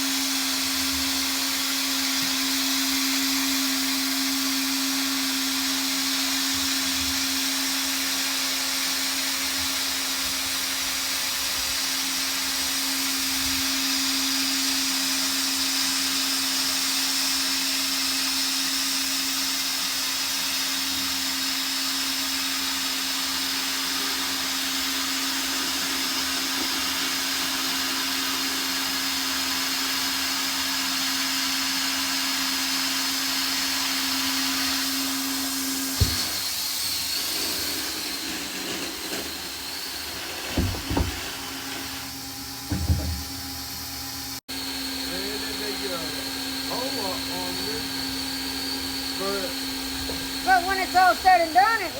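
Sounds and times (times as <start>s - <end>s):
hot-air welder blower hissing: 0.0s - 51.9s.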